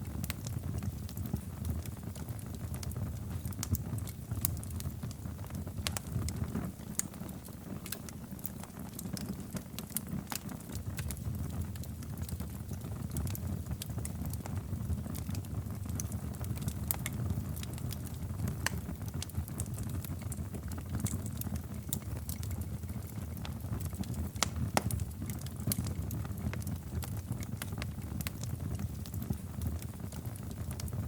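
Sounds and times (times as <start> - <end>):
wood fire crackling in fireplace: 0.0 - 31.0.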